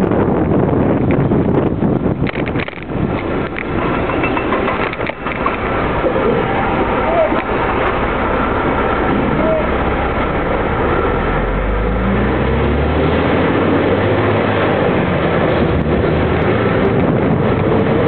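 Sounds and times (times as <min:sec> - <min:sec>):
bus engine accelerating: 0:02.8 - 0:18.0.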